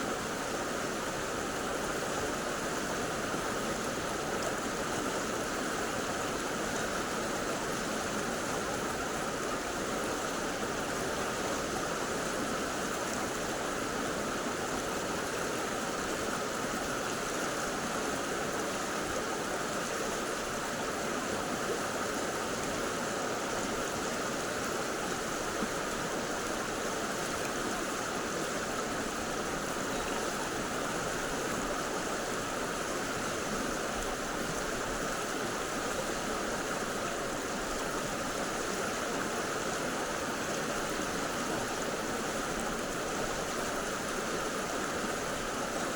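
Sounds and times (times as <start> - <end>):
stream water rushing over rocks: 0.0 - 45.9.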